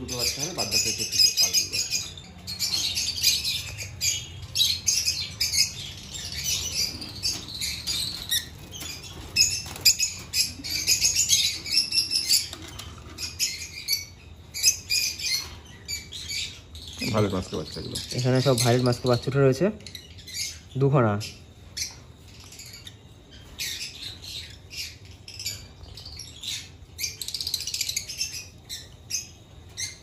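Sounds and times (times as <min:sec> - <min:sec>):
lovebirds chirping and squawking: 0:00.0 - 0:30.0.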